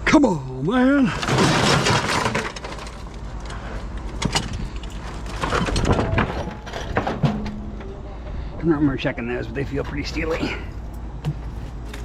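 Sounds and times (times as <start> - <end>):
scrap metal rattling and clanking: 1.0 - 12.0.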